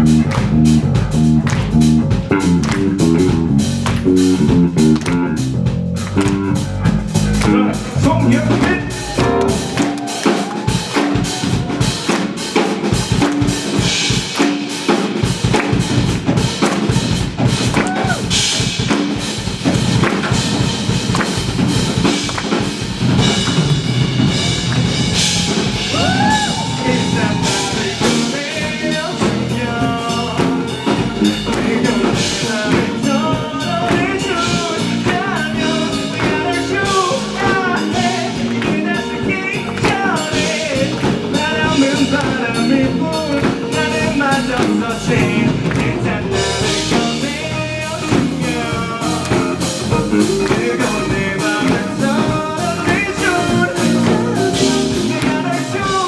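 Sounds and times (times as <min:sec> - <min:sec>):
drum kit: 0:00.0 - 0:56.0
live band playing: 0:00.0 - 0:56.0.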